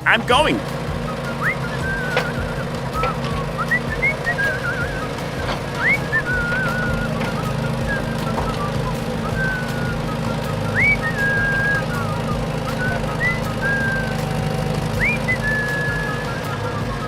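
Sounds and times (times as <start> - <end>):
person whistling high notes: 0.0 - 17.0
steady low hum: 0.0 - 17.0.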